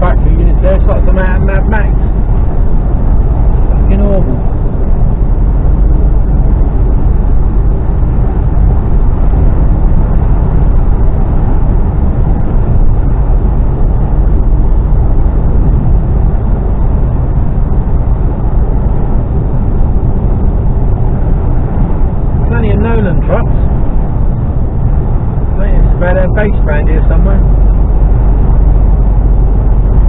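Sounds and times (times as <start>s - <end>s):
lorry engine drone: 0.0s - 30.0s
road rumble: 0.0s - 30.0s.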